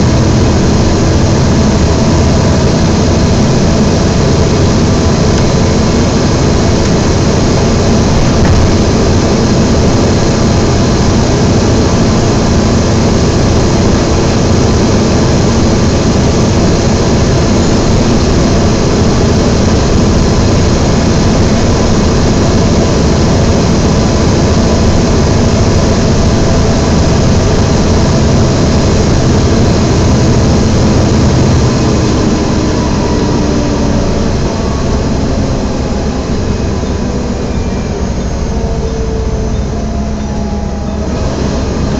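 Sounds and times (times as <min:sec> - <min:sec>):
bus cooling fan whine: 0:00.0 - 0:41.9
bus engine: 0:00.0 - 0:41.9
road noise: 0:00.0 - 0:41.9.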